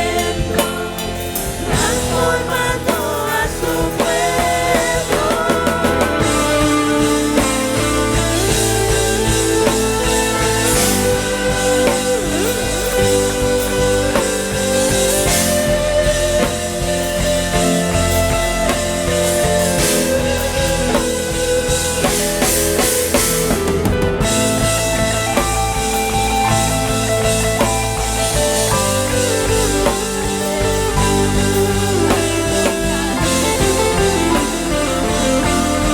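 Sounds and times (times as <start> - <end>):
drum kit with cymbals: 0.0 - 35.9
guitar and keyboard chords: 0.0 - 35.9.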